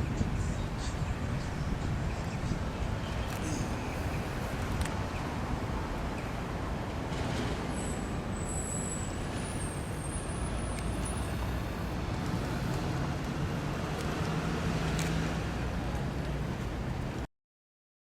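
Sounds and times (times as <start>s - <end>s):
street traffic rumble: 0.0s - 17.3s.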